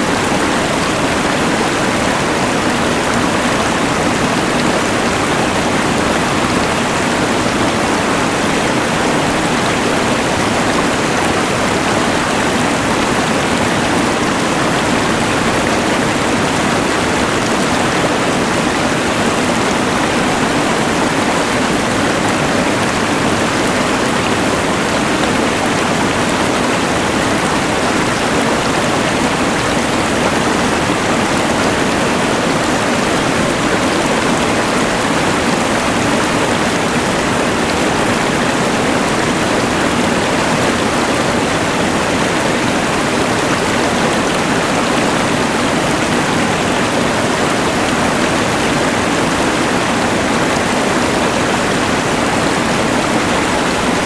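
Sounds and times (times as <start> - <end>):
rushing mountain river: 0.0 - 54.0.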